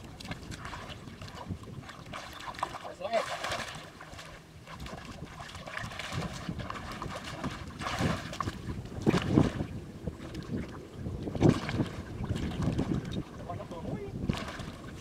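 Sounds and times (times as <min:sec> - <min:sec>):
muddy water sloshing and splashing: 0:00.0 - 0:15.0.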